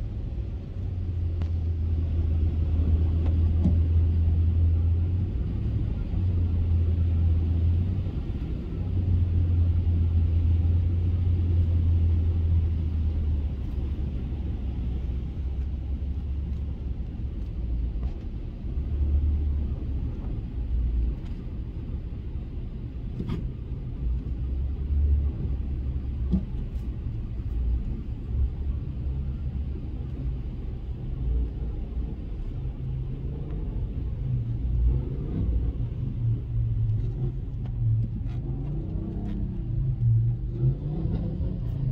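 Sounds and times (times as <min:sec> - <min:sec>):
truck engine and road rumble: 0:00.0 - 0:41.9.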